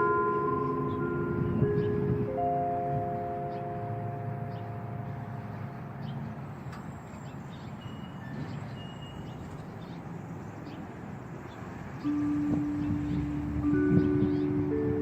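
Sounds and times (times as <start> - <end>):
church bell chimes: 0.0 - 9.2, 12.0 - 15.0.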